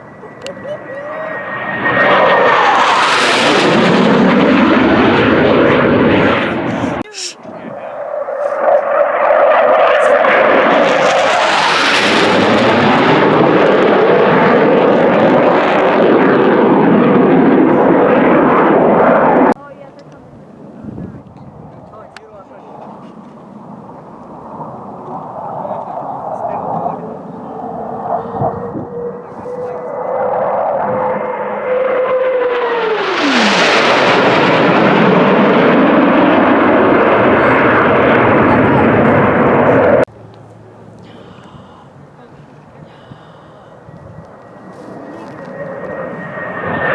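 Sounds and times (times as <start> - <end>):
airplane engine roar: 0.0 - 46.9.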